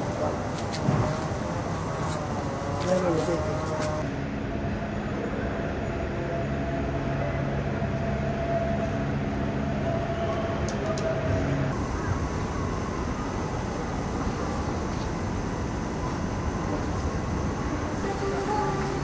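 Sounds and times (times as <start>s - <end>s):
mechanical hum of terminal hall: 0.0s - 19.0s
outdoor airfield ambience: 0.0s - 19.0s.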